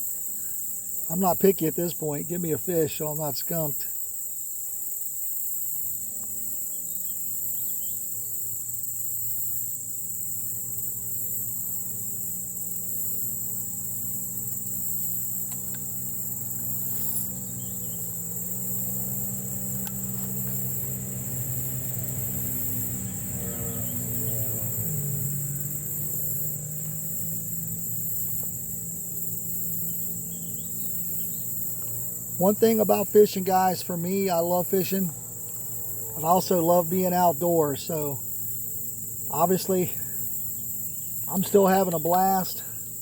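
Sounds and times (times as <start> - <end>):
distant engine droning: 0.0 - 43.0
high-pitched insect chorus: 0.0 - 43.0.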